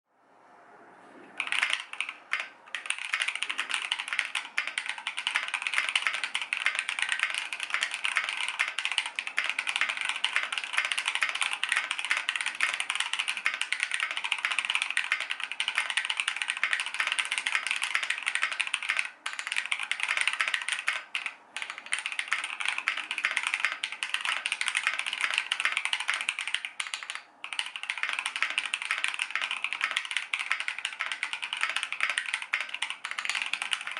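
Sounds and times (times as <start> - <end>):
mechanical keyboard typing: 1.4 - 33.9.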